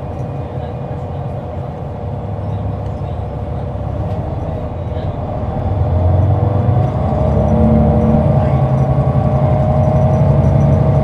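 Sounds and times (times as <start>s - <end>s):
bus diesel engine under load: 0.0s - 11.0s.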